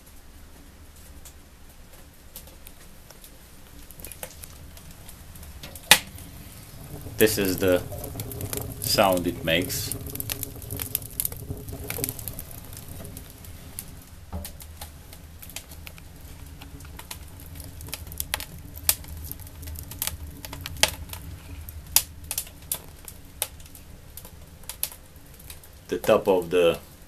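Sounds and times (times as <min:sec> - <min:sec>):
fire crackling and popping: 0:00.0 - 0:27.0
low rumble of stove draft: 0:00.0 - 0:27.0.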